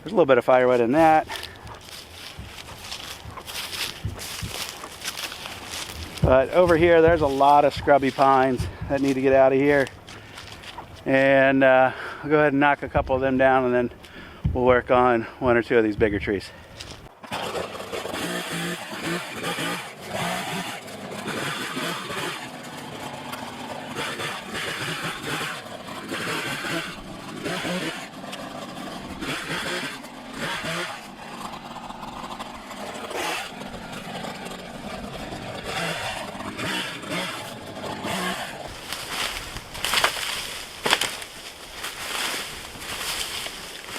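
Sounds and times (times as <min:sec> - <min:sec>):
chainsaw revving and cutting: 0:00.8 - 0:10.9, 0:17.2 - 0:43.9.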